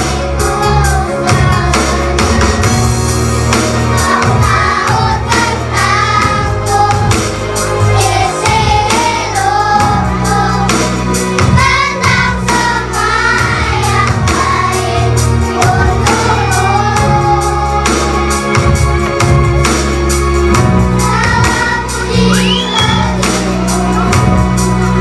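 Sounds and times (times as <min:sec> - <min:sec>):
children singing: 0:00.0 - 0:02.4, 0:03.7 - 0:18.6, 0:20.9 - 0:25.0
instrumental backing with bass: 0:00.0 - 0:25.0.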